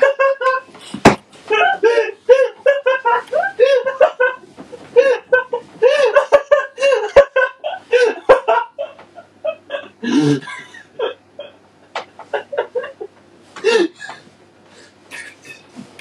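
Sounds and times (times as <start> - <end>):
person laughing hard: 0.0 - 0.8, 1.4 - 11.6, 12.2 - 14.2.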